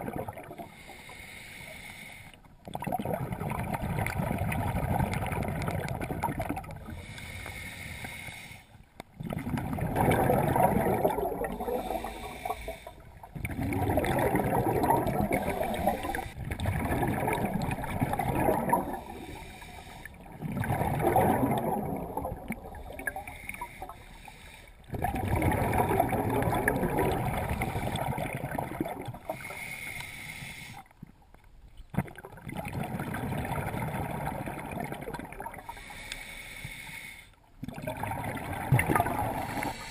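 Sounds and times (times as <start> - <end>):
underwater exhaled bubbles: 0.0 - 1.1, 2.6 - 36.2, 37.6 - 39.9.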